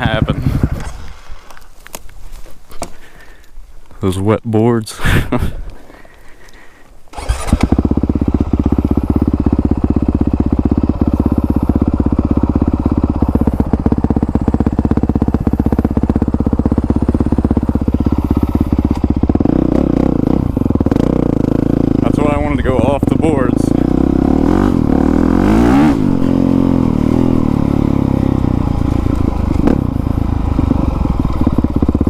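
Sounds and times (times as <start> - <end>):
motorcycle engine idling: 0.0 - 1.6, 5.3 - 32.0.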